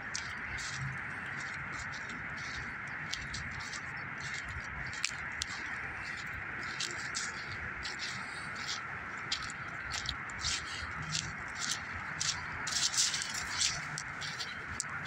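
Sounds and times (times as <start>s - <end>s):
branches rustling and scratching: 0.0s - 15.0s
footsteps on dry dirt: 0.0s - 15.0s
small ticks: 0.1s - 15.0s.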